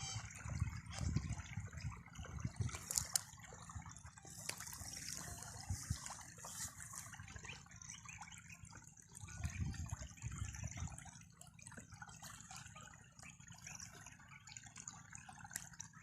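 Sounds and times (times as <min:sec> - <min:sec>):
irrigation water flowing: 0:00.0 - 0:16.0
small water splashes: 0:00.0 - 0:16.0.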